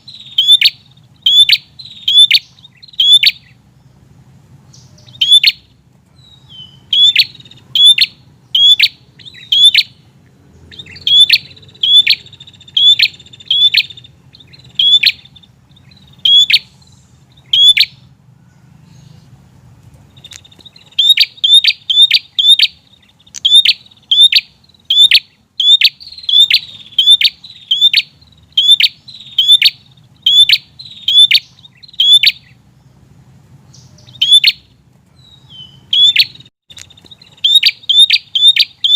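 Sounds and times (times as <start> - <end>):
bird sharp chip calls: 0.0 - 3.6, 4.7 - 19.4, 20.1 - 32.7, 33.7 - 38.9.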